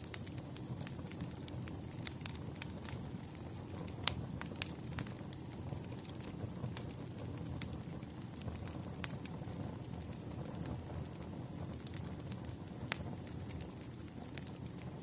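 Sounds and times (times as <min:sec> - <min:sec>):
fire crackling and popping: 0:00.0 - 0:15.0
wood fire rumbling: 0:00.0 - 0:15.0.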